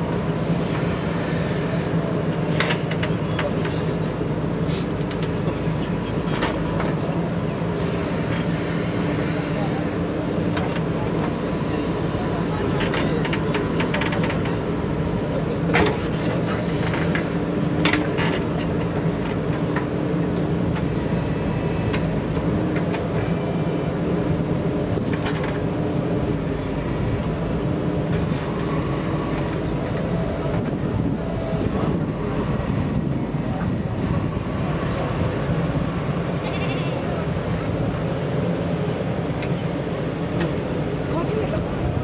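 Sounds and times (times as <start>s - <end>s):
backhoe diesel engine running: 0.0s - 42.0s.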